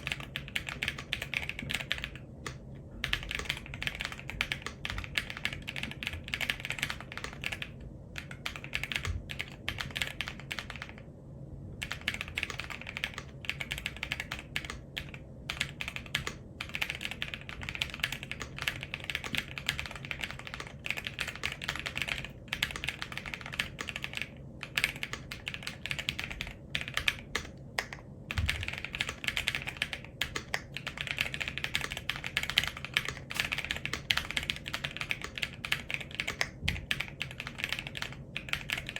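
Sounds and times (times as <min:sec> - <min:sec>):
mechanical keyboard typing: 0:00.0 - 0:11.0, 0:11.8 - 0:38.9.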